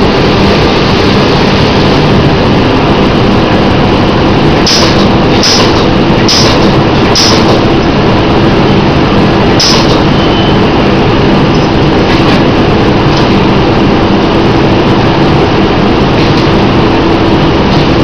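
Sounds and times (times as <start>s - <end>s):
bagging machine humming: 0.0s - 18.0s.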